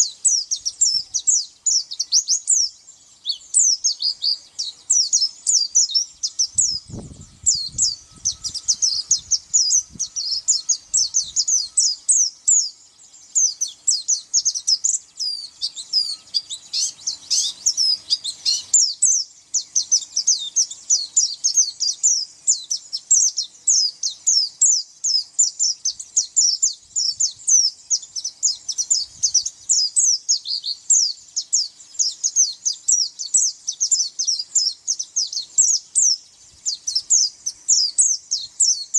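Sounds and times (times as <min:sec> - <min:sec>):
bird chirping and twittering: 0:00.0 - 0:38.9.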